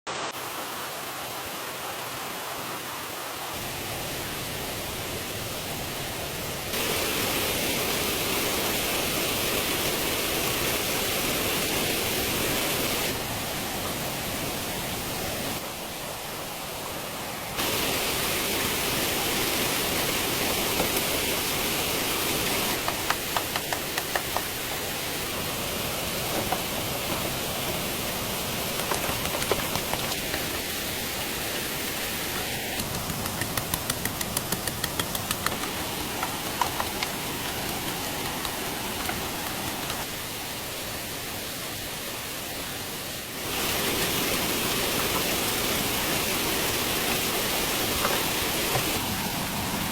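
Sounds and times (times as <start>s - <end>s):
steady hissing wash of noise: 0.1s - 49.9s.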